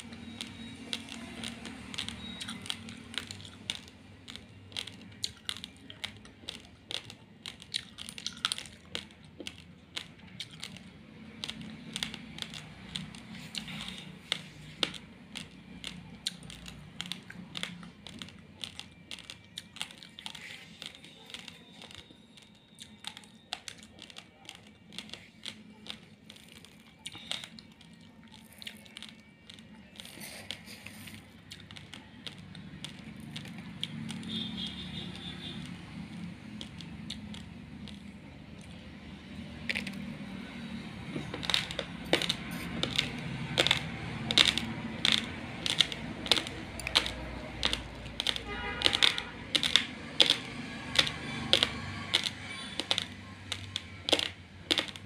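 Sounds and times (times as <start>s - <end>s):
raw rice being chewed: 0.0s - 55.0s.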